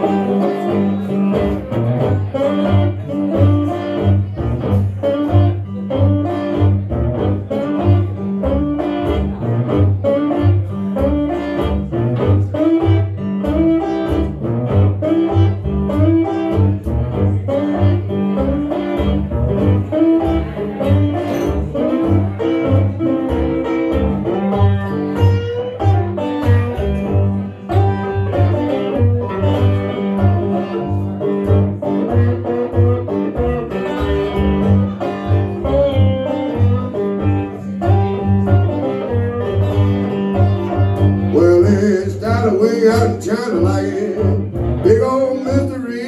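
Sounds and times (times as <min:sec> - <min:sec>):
picked acoustic guitar: 0:00.0 - 0:46.0.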